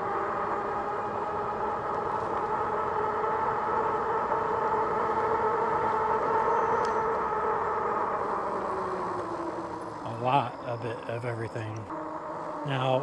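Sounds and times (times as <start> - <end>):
fat tires droning hum: 0.0 - 13.0.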